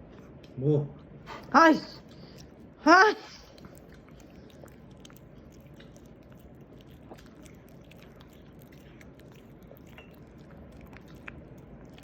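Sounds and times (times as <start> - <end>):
puppy chewing food: 1.4 - 12.0.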